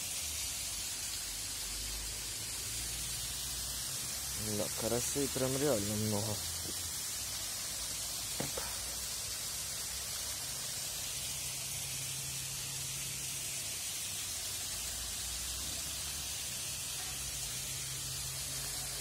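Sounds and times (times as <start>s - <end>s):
running water hiss: 0.0s - 19.0s.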